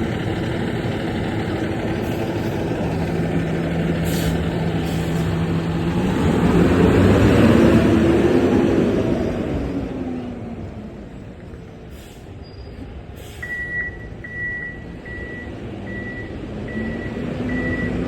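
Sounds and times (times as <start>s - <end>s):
fire engine diesel engine running: 0.0s - 18.0s.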